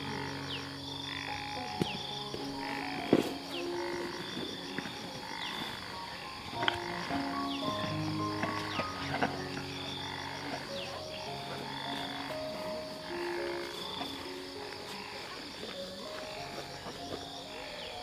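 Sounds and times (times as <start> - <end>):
animal calls chorus: 0.0 - 18.0
soft music with held notes: 0.0 - 18.0.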